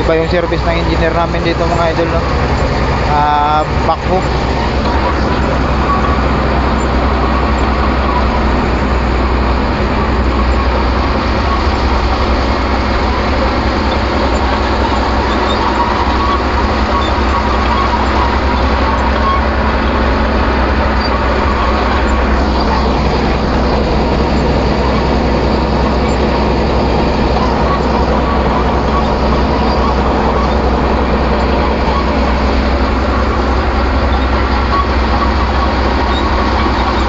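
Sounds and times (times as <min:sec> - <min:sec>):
excavator diesel engine rumbling: 0:00.0 - 0:37.0.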